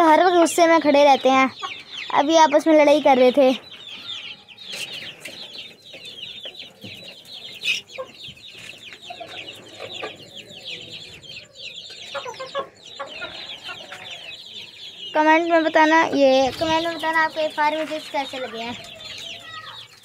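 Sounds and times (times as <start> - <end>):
chickens clucking: 0.0 - 20.0
chicks peeping: 0.0 - 20.0.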